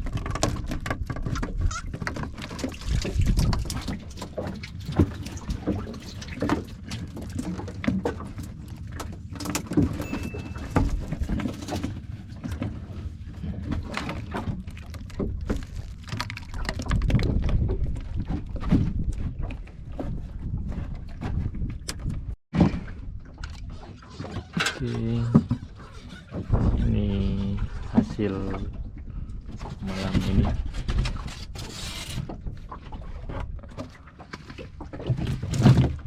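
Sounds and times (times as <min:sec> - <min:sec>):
boat engine low rumble: 0:00.0 - 0:36.0.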